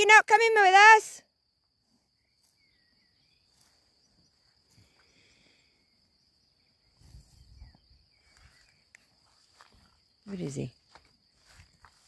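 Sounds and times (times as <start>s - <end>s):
insects droning in grass: 0.0s - 12.0s
faint chirps: 1.2s - 11.6s.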